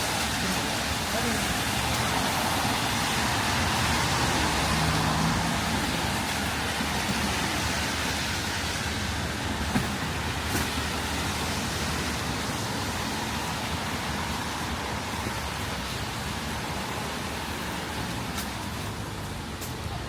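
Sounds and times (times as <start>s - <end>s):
passing road traffic: 0.0s - 20.0s
rain on wet street: 0.0s - 20.0s.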